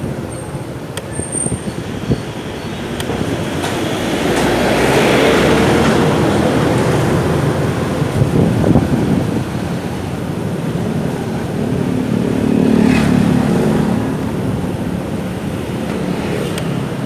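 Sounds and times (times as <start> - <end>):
city traffic: 0.0 - 17.0.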